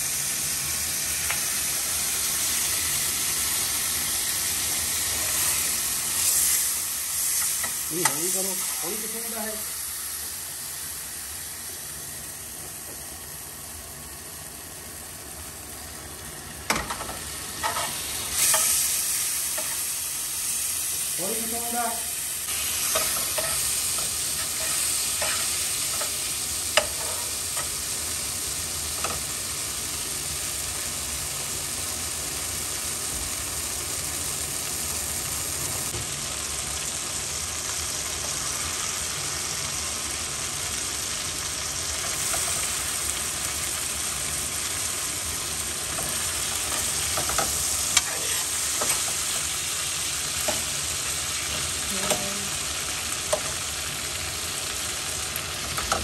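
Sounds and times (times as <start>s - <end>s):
chicken frying in a pan: 0.0s - 56.0s.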